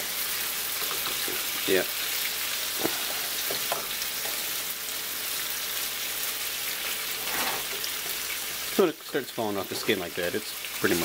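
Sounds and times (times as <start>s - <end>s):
fish sizzling in a frying pan: 0.0s - 11.0s.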